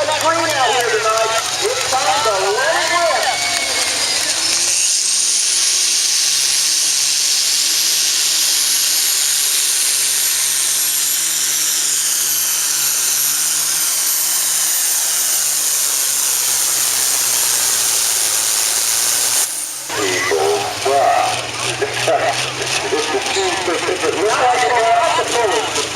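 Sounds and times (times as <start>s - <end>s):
diesel tractor engine at full throttle: 0.0s - 25.9s
high turbo whistle: 0.7s - 24.3s.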